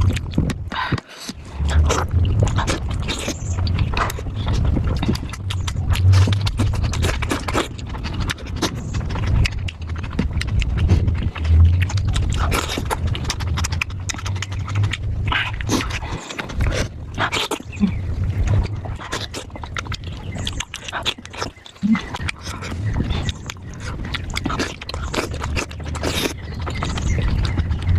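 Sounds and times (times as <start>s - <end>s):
person chewing and smacking: 0.0s - 27.9s.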